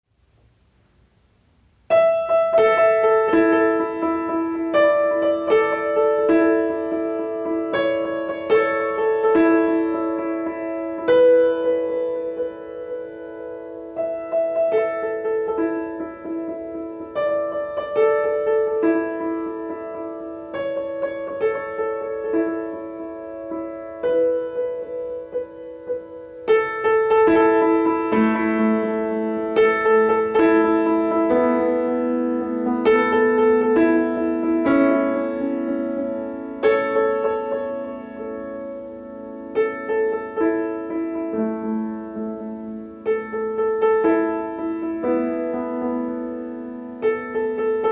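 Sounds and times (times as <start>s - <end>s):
slow piano duet: 0.2s - 47.9s.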